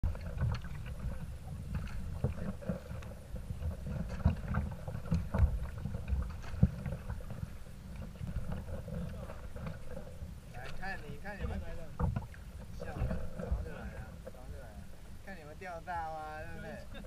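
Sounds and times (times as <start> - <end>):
paddle splashing: 0.0 - 17.0
waves slapping a kayak bow: 0.0 - 17.0
wind rumble on microphone: 0.0 - 17.0.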